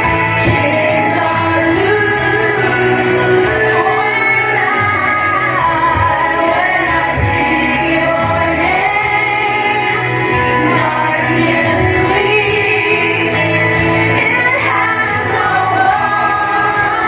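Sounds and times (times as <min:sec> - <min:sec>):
steady bass accompaniment: 0:00.0 - 0:17.0
woman singing: 0:00.0 - 0:17.0.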